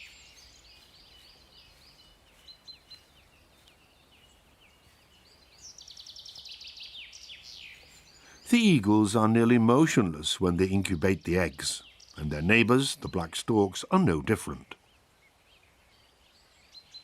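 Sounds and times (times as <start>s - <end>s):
songbirds chirping: 0.0s - 17.0s
trilled bird song: 0.0s - 17.0s.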